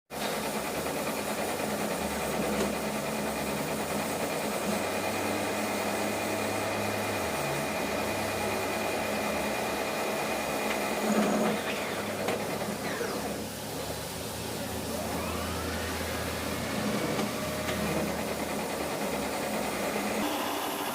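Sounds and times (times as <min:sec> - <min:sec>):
lathe motor humming: 0:00.6 - 0:20.9.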